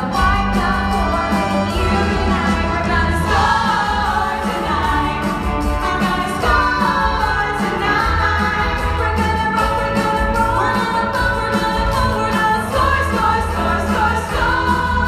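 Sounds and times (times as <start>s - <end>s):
women's chorus singing: 0.0s - 15.0s.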